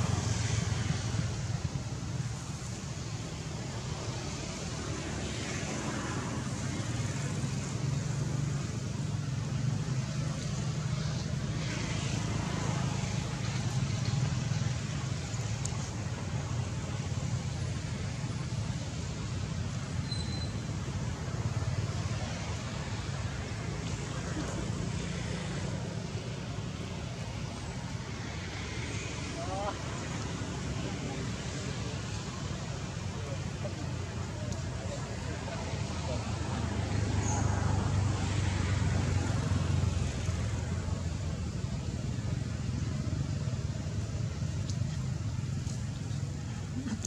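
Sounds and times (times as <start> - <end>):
constant hiss: 0.0 - 47.0
outdoor background rumble: 0.0 - 47.0.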